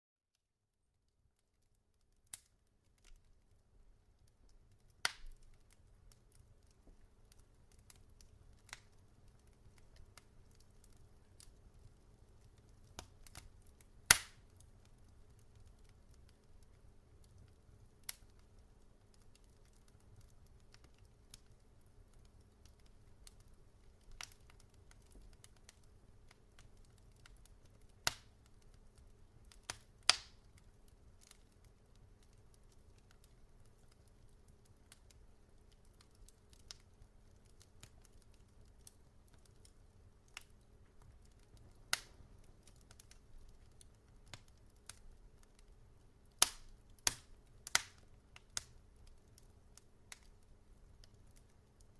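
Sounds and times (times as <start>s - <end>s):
faint low hiss: 1.0s - 51.9s
wood fire crackling and popping: 1.0s - 51.9s.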